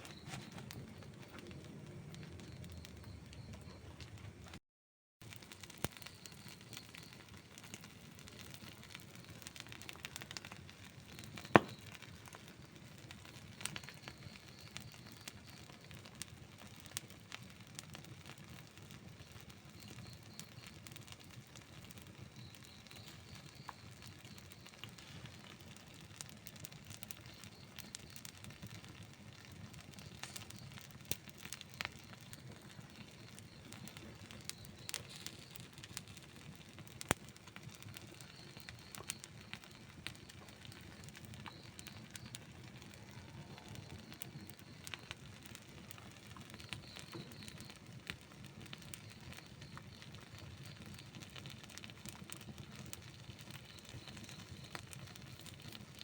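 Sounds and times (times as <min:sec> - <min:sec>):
campfire crackling and popping: 0:00.0 - 0:04.6, 0:05.2 - 0:56.0.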